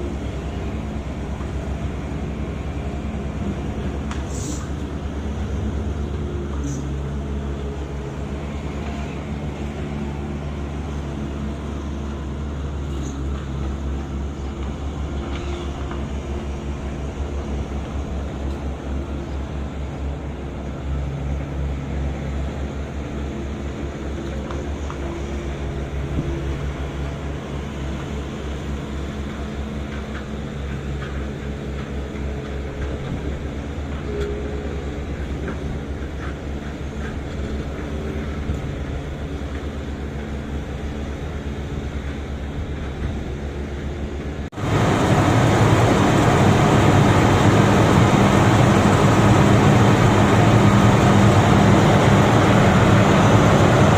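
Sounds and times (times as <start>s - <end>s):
heavy machine engine droning: 0.0s - 53.9s.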